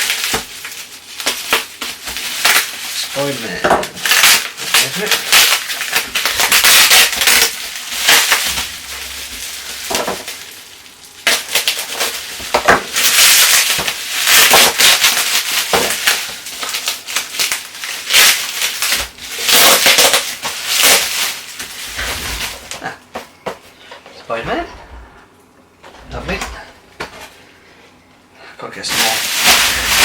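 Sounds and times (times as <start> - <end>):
packaging crinkling and rustling: 0.0 - 22.9, 28.9 - 30.0.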